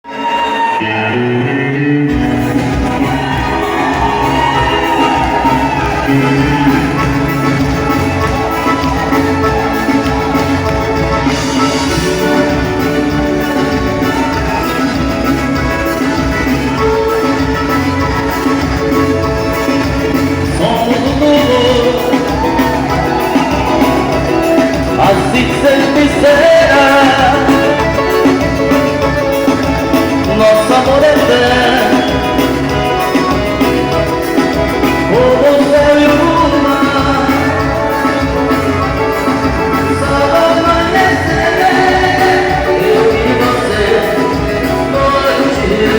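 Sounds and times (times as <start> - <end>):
band playing forro music: 0.0 - 45.9.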